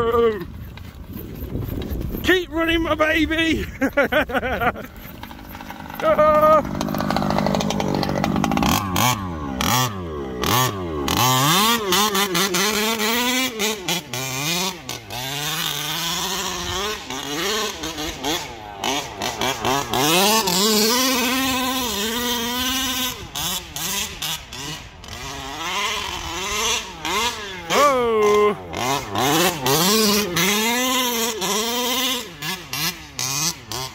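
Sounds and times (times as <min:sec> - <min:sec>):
small two-stroke engine revving: 0:00.0 - 0:33.9.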